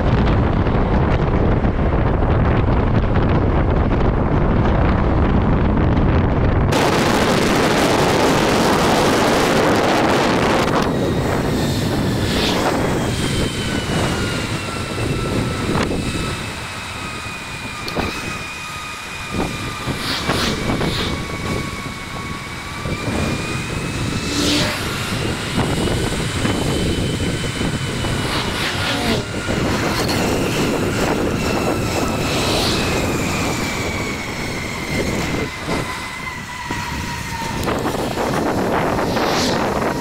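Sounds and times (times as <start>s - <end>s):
wind on microphone: 0.0s - 40.0s
bike wheels whining: 0.1s - 40.0s.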